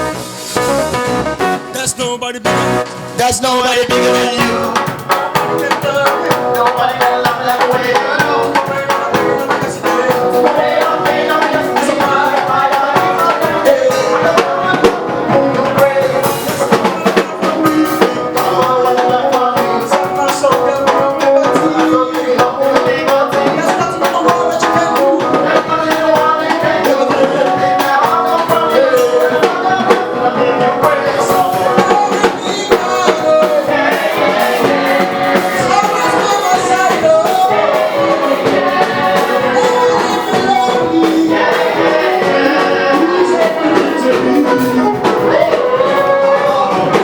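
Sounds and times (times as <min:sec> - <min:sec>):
band with drum kit playing: 0:00.0 - 0:47.0
people singing: 0:03.2 - 0:47.0.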